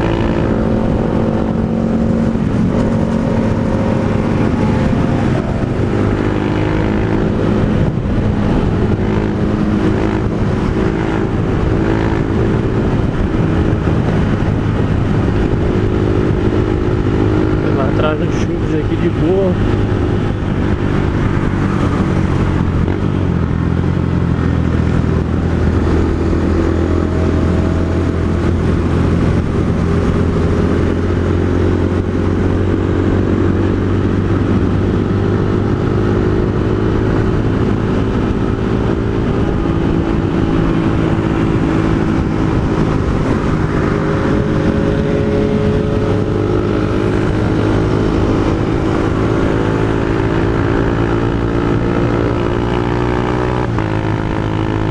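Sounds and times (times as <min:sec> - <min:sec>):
motorcycle engine while riding: 0:00.0 - 0:54.9.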